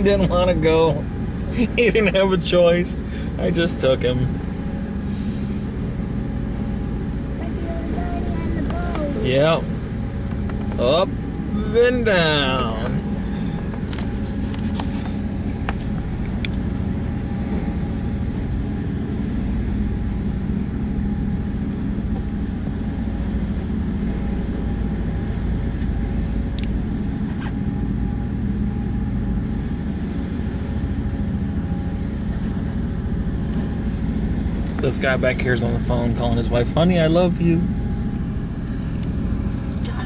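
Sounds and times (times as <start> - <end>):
boat engine rumbling drone: 0.0 - 40.0.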